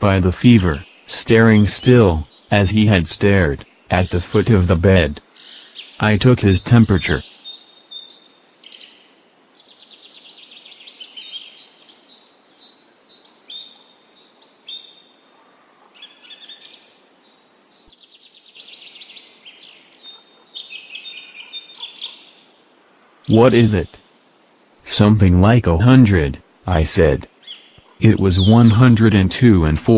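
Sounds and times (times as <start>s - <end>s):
songbirds singing: 0.0s - 29.9s.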